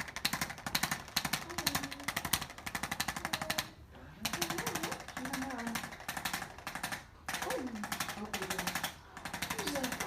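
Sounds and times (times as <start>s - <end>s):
percussion massager tapping: 0.0s - 10.0s.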